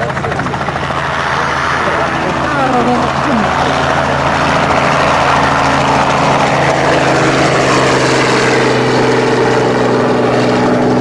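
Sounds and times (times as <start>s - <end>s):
model aircraft engine buzzing: 0.0s - 11.0s.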